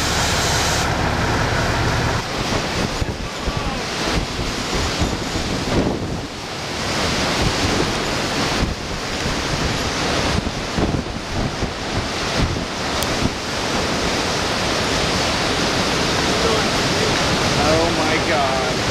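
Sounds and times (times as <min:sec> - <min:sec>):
wind gusting against microphone: 0:00.0 - 0:18.9
wind rushing through trees: 0:00.0 - 0:18.9.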